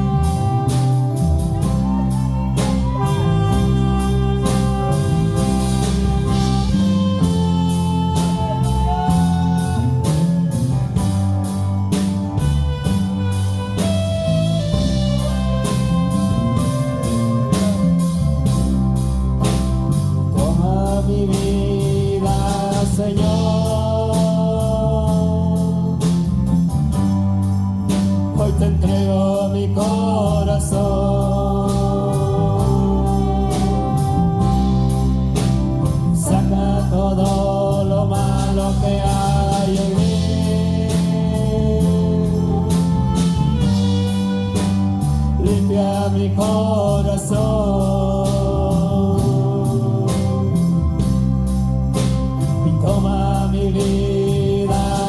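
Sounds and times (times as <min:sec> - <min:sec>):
person singing melody: 0:00.0 - 0:26.8, 0:28.0 - 0:55.0
bass guitar: 0:00.0 - 0:55.0
steady drum beat: 0:00.0 - 0:55.0.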